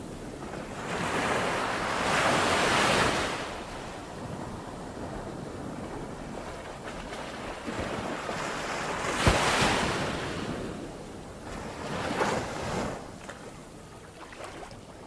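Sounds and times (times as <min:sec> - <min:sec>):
ocean waves breaking on shore: 0:00.0 - 0:15.0
wind on microphone: 0:00.0 - 0:15.0.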